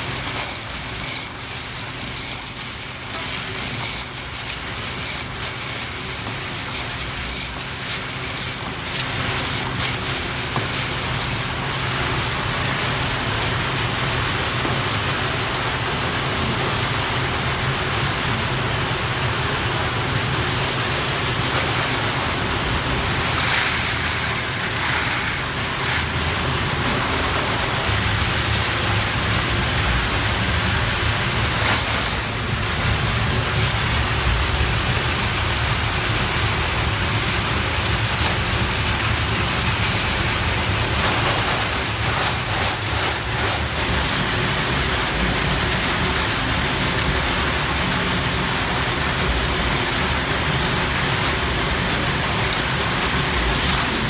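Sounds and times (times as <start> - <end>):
high-pitched rattling bursts: 0.0 - 19.4, 20.8 - 44.8
workshop machinery drone: 0.0 - 54.0.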